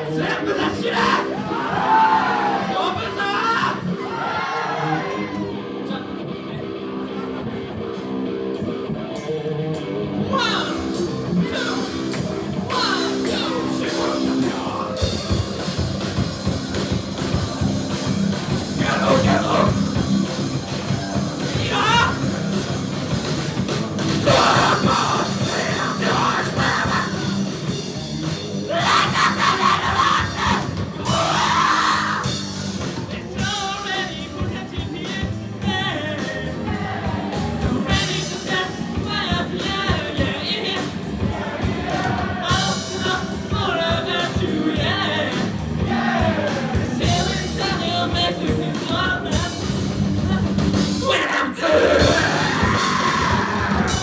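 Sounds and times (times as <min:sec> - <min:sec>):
singer singing and shouting: 0:00.0 - 0:06.7, 0:10.2 - 0:54.0
live rock band playing: 0:00.0 - 0:54.0.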